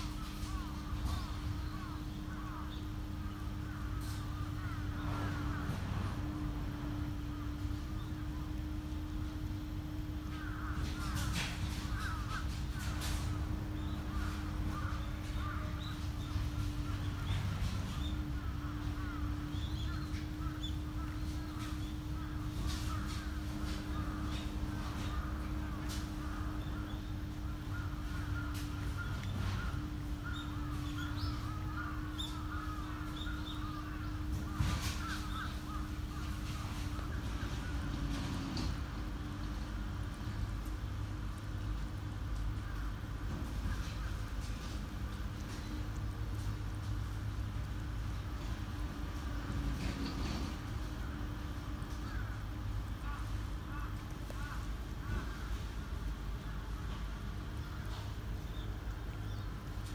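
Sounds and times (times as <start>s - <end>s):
birds calling: 0.0s - 59.9s
low hum and rumble: 0.0s - 59.9s.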